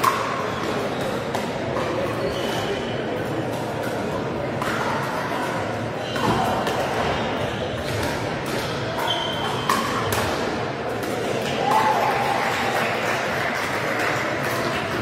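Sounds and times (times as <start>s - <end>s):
hall hubbub: 0.0s - 15.0s.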